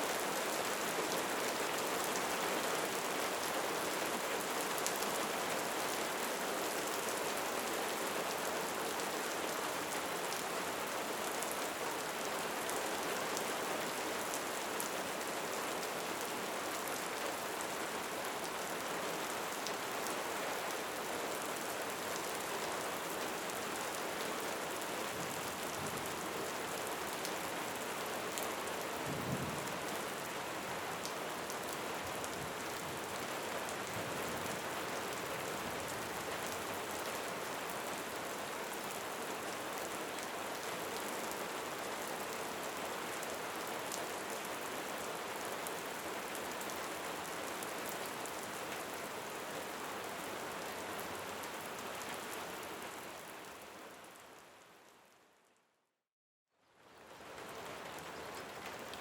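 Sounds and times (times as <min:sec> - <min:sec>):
rain falling: 0:00.0 - 0:55.2, 0:56.8 - 0:59.0.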